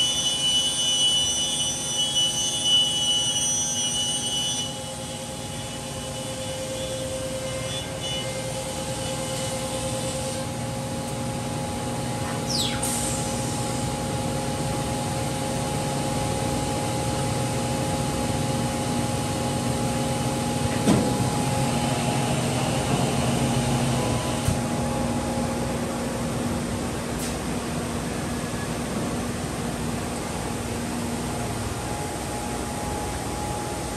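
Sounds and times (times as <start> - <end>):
cnc router whirring hum: 0.0 - 33.9.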